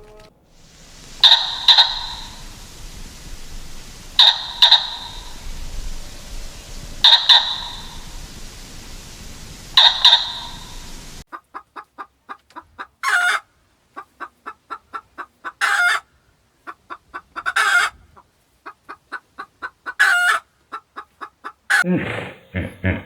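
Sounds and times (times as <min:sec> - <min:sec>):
hen cackling and squawking: 0:00.0 - 0:21.8.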